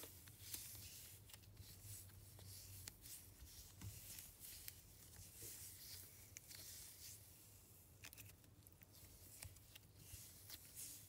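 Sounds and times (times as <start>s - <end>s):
fingers kneading soft clay: 0.0s - 11.0s.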